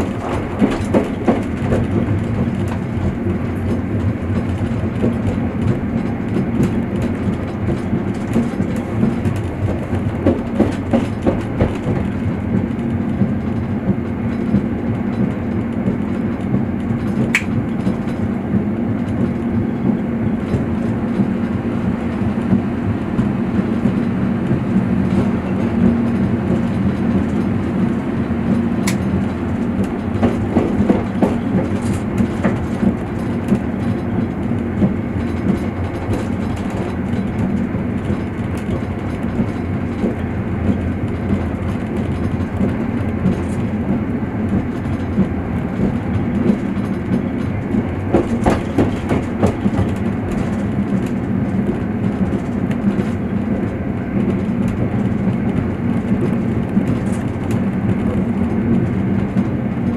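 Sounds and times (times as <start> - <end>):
train wheels rumbling on track: 0.0 - 59.9
wheel clicks over rail joints: 0.0 - 59.9.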